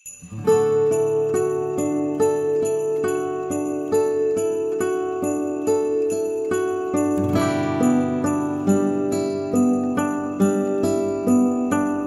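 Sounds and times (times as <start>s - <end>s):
bell-like melody over chords: 0.0s - 12.0s.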